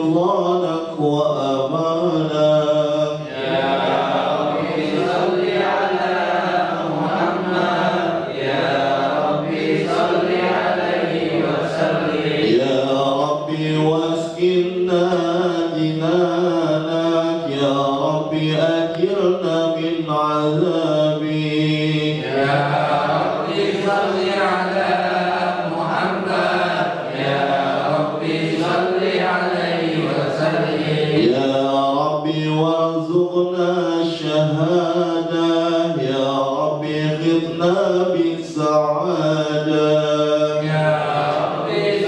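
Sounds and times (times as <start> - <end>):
man chanting devotional recitation: 0.0 - 42.0.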